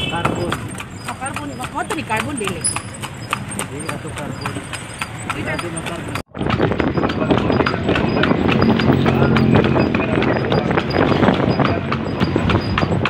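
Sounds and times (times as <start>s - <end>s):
horse hooves on asphalt: 0.0s - 13.0s.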